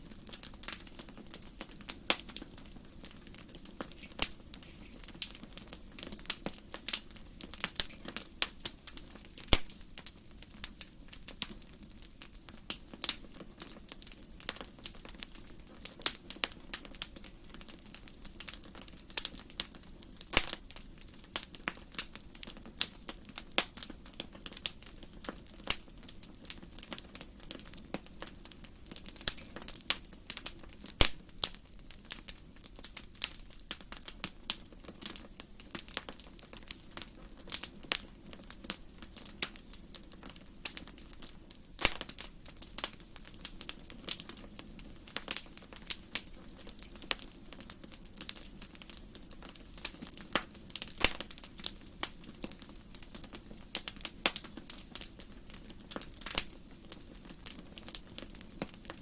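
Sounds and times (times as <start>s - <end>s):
wood fire crackling: 0.0s - 59.0s
loud fire pops: 0.1s - 11.6s, 20.2s - 59.0s.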